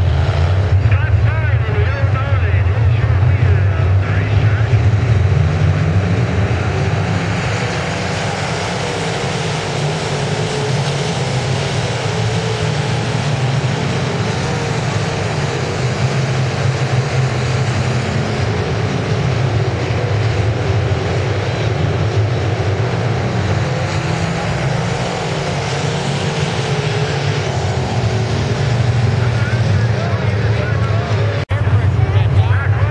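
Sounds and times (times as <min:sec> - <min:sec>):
race car engines droning: 0:00.0 - 0:32.9.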